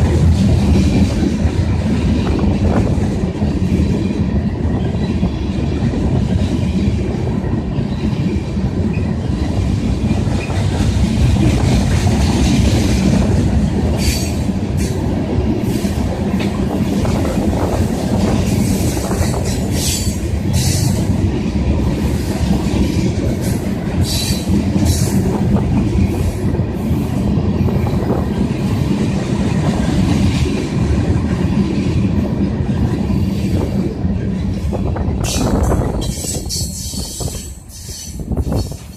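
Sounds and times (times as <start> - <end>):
train wheels rumbling on rails: 0.0 - 38.9
wind buffeting microphone: 0.0 - 38.9.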